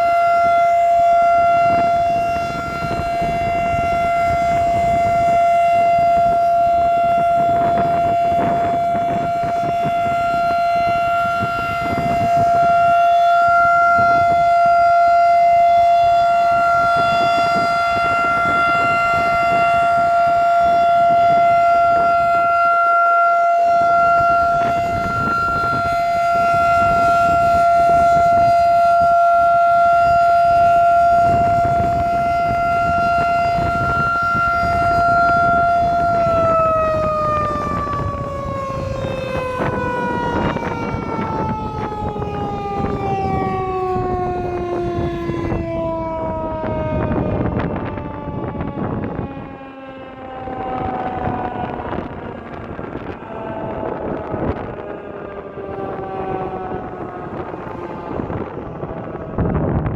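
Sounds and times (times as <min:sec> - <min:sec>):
rotating tornado siren: 0:00.0 - 0:59.9.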